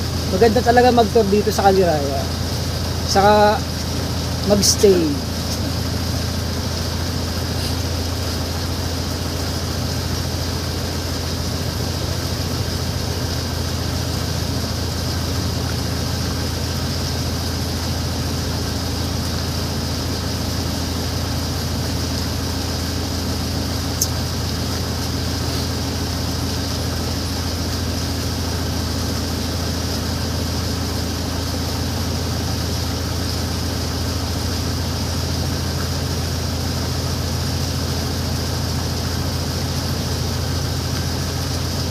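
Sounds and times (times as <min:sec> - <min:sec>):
motorboat engine running: 0:00.0 - 0:41.9.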